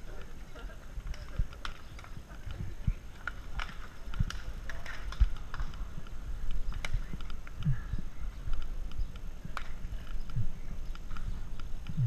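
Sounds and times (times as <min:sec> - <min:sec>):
bicycle clicks: 0:00.0 - 0:12.0
steady low rumble: 0:02.2 - 0:12.0.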